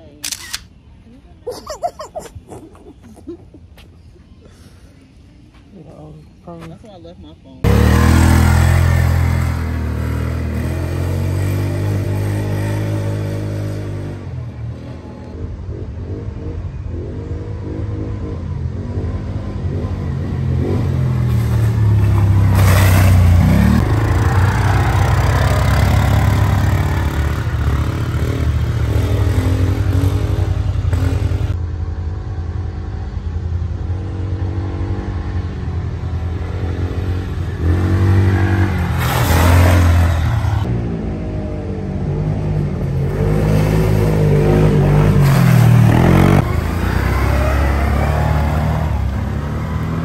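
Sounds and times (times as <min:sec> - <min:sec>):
off-road vehicle engines revving: 0:07.6 - 0:50.0.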